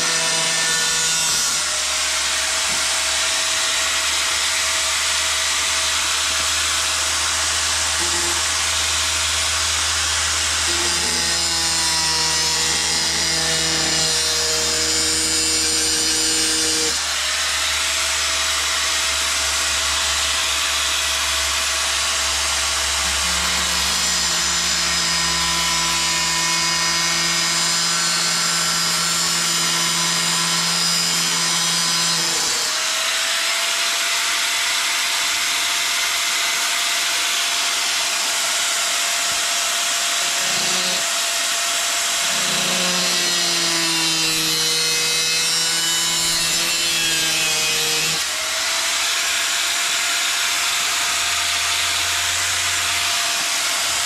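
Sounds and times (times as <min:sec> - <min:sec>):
angle grinder cutting metal: 0:00.0 - 0:54.0.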